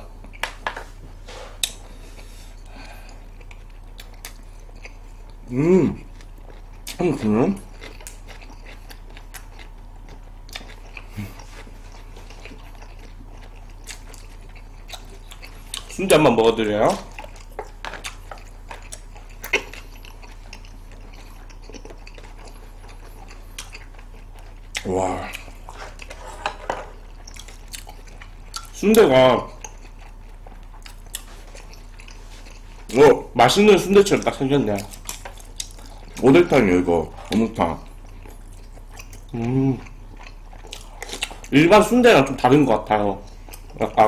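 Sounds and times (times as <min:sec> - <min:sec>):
steady low hum: 0:00.0 - 0:44.0
soft crunches of chewing: 0:00.1 - 0:44.0.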